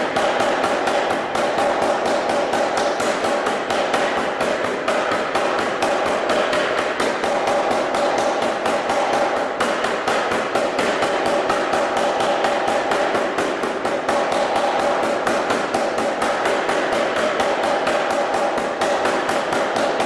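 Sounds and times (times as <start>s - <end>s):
power hammer pounding steel: 0.0s - 20.0s.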